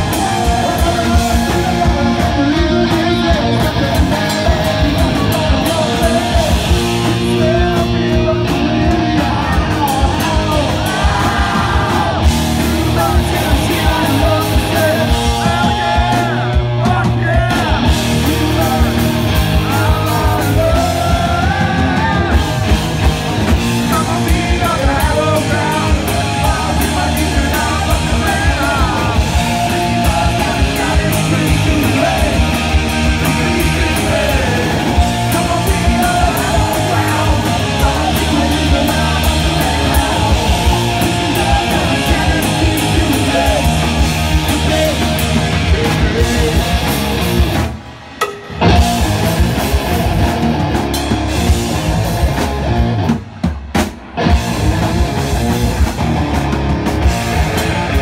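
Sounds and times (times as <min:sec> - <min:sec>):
male singer: 0:00.0 - 0:22.8, 0:23.6 - 0:47.2, 0:57.3 - 0:58.0
distorted electric guitars: 0:00.0 - 0:58.0
drum kit: 0:00.0 - 0:58.0.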